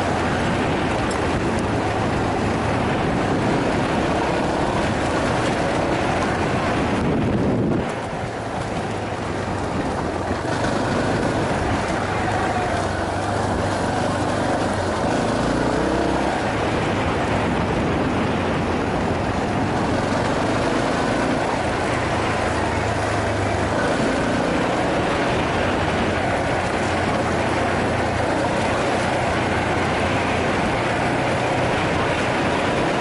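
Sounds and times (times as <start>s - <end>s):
motorcycle engine running: 0.0s - 33.0s
wind rushing over microphone: 0.0s - 33.0s.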